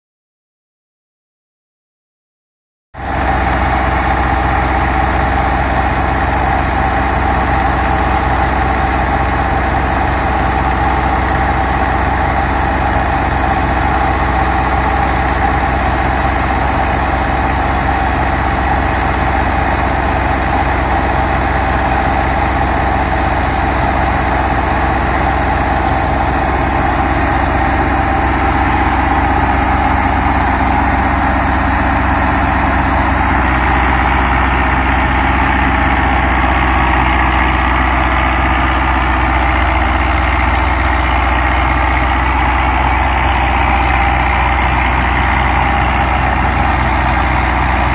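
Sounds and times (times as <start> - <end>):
thresher drum whirring: 3.0 - 47.9
tractor diesel engine running: 3.0 - 47.9.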